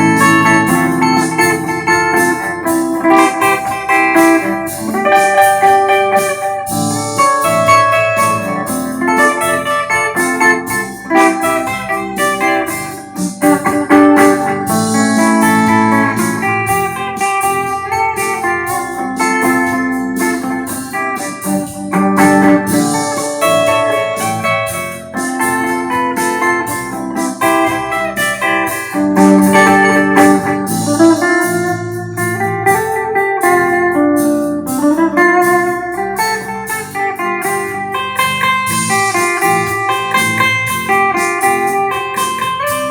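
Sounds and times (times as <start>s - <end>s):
backing track drums and keyboard: 0.0s - 42.9s
clean electric guitar melody: 0.0s - 42.9s.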